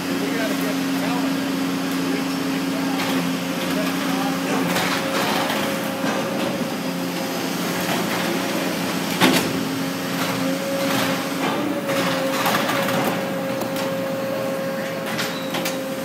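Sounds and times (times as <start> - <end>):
hay compressor humming: 0.0 - 16.0.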